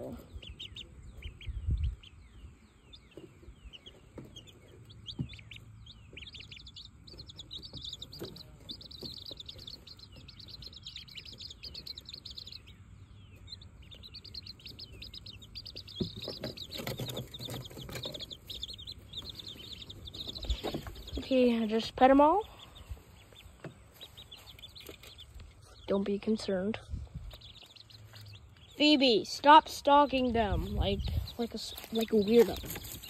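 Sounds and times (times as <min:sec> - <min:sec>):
chicks and ducklings peeping: 0:00.0 - 0:33.0.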